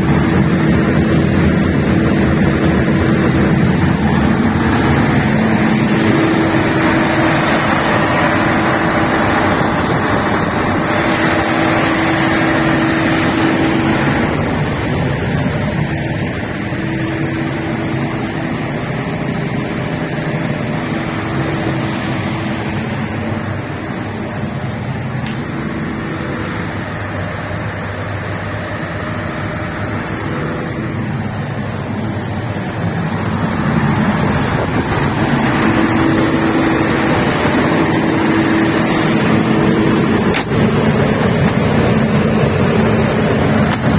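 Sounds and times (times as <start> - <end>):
diesel generator running: 0.0 - 43.9.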